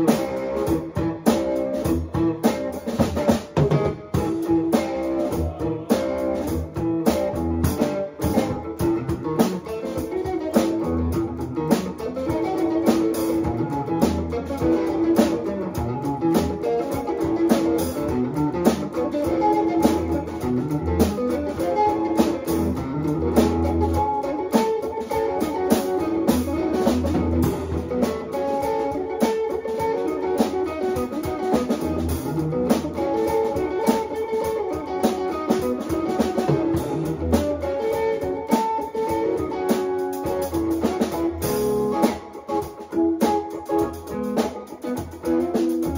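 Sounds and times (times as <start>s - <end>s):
drum hits: 0.0s - 29.9s, 30.5s - 45.9s
band playing: 0.0s - 45.9s.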